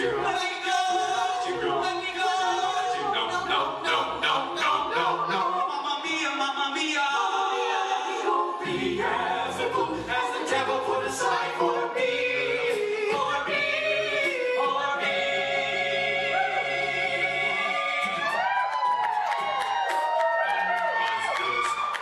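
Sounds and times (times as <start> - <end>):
a cappella group singing harmony: 0.0 - 20.0.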